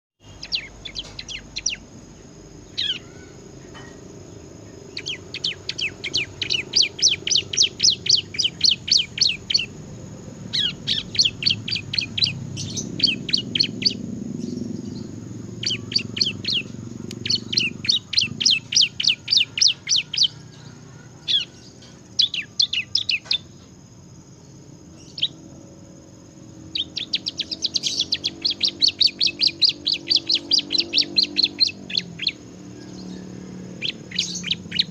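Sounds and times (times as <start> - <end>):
bird singing rapid high chirps: 0.2 - 34.9.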